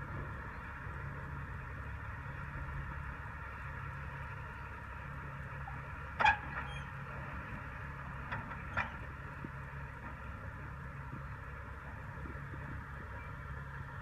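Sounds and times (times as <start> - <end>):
distant diesel engine running: 0.0 - 14.0.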